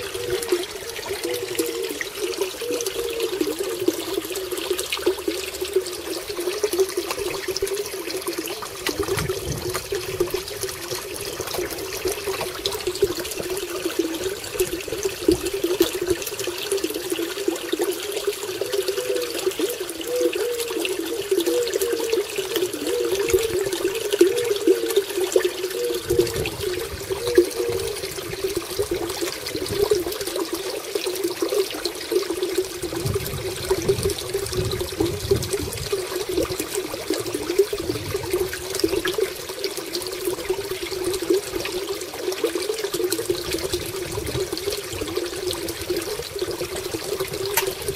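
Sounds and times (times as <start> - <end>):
water pouring into a pond: 0.0 - 47.9.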